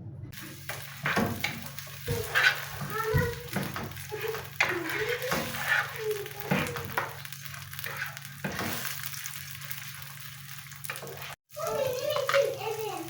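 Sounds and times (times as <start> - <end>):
utensil scraping a pan: 0.4 - 11.4
food sizzling in a frying pan: 0.4 - 13.0.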